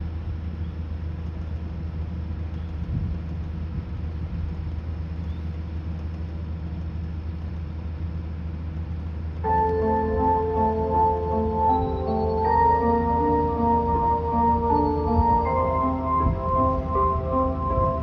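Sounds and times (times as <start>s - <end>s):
faint constant hum: 0.0s - 18.0s
low rumble: 0.0s - 18.0s.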